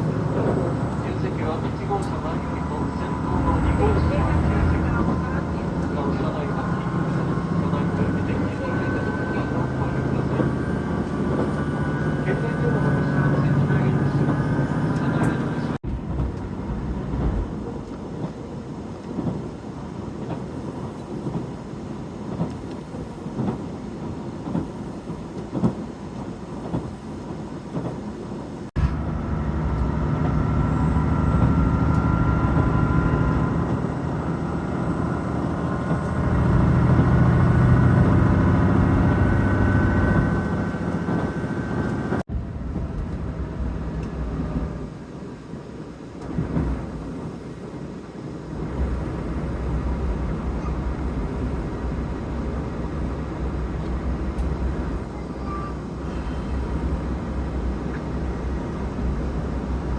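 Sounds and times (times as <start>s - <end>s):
diesel train rumble: 0.0s - 59.9s
train engine drone with whine: 0.0s - 59.9s.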